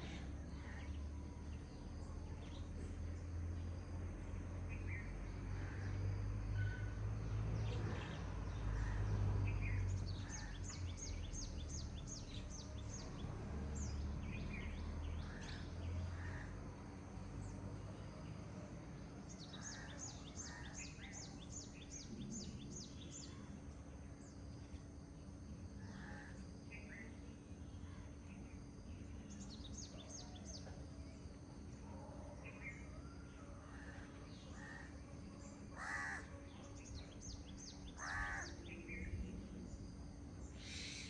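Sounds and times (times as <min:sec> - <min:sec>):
other birds calling softly: 0:00.0 - 0:03.3, 0:04.7 - 0:18.4, 0:19.2 - 0:41.0
songbird singing: 0:00.0 - 0:41.0.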